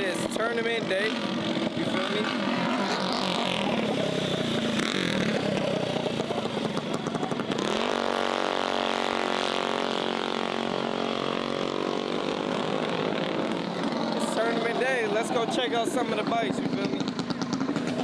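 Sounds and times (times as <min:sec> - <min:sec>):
mini bike engines revving: 0:00.0 - 0:18.0.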